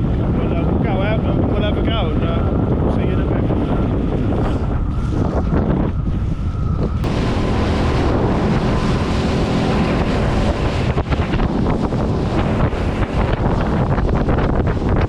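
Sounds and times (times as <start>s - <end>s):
waves washing against hull: 0.0s - 15.0s
wind buffeting microphone: 0.0s - 15.0s.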